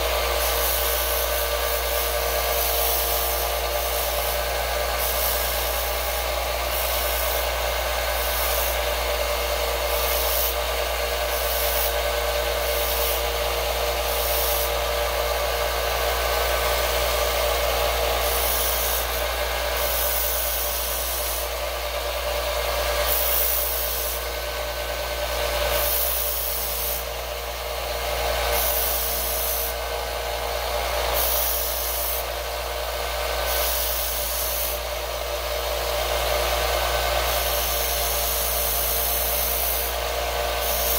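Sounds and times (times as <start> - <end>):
belt sander motor hum: 0.0 - 40.9
hissing grind on sander belt: 0.0 - 40.9.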